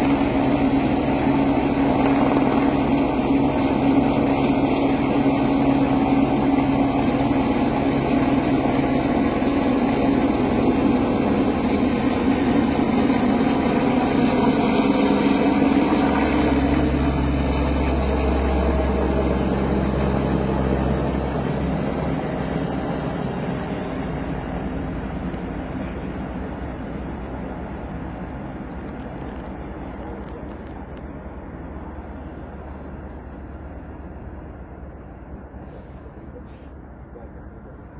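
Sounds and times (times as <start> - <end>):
helicopter rotor blades beating: 0.0 - 35.6.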